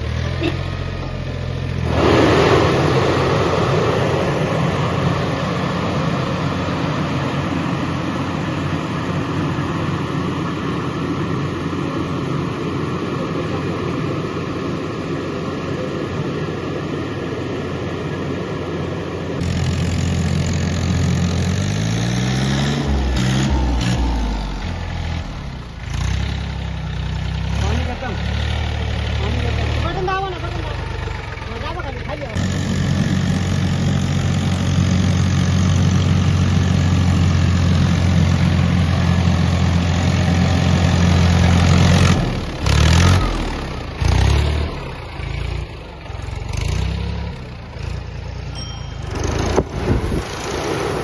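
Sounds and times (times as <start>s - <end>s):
tractor diesel engine revving: 0.0s - 13.0s, 18.8s - 51.0s.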